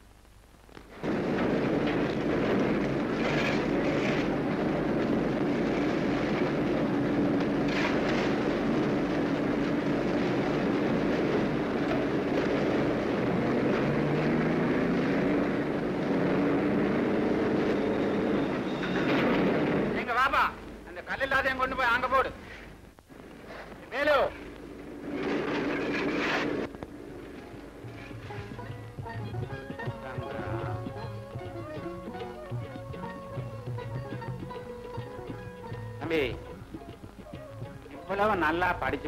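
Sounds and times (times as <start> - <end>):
machinery rumble with rattle: 0.9 - 20.8, 23.2 - 39.0.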